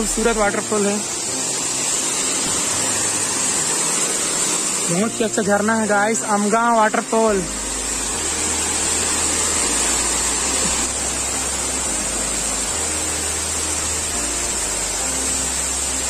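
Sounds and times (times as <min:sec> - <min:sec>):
low background music: 0:00.0 - 0:16.0
waterfall rushing: 0:00.0 - 0:16.0.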